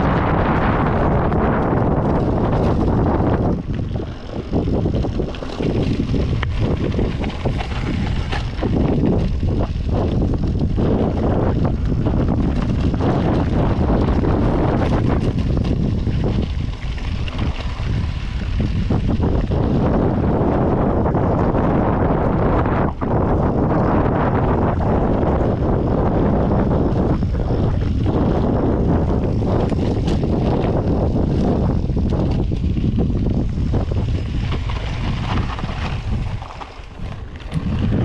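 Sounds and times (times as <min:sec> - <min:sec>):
bike knocks and rattles: 0:00.0 - 0:23.0, 0:27.0 - 0:38.0
tyres on dirt trail: 0:00.0 - 0:38.0
wind buffeting microphone: 0:00.0 - 0:38.0.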